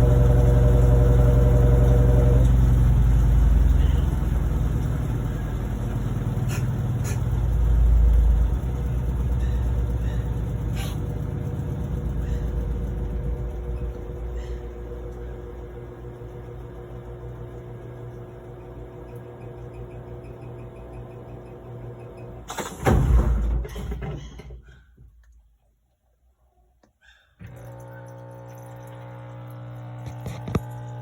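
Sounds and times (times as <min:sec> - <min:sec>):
washing machine rumbling: 0:00.0 - 0:25.4, 0:27.4 - 0:31.0.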